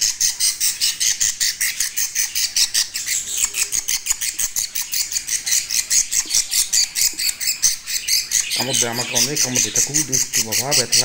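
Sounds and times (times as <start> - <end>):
baby budgerigar calling: 0.0 - 11.0.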